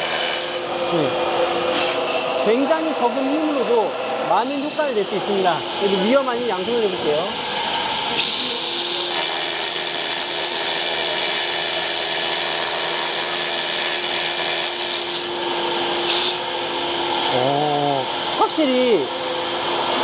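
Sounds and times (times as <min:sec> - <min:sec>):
power drill whining: 0:00.0 - 0:20.0.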